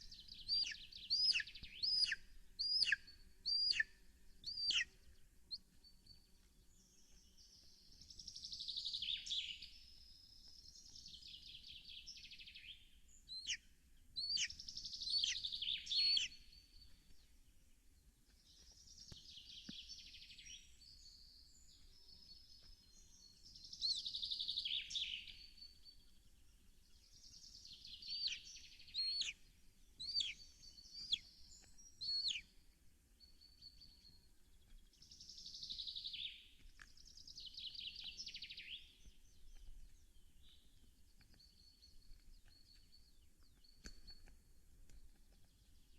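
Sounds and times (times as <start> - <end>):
birds singing: 0.0 - 45.9.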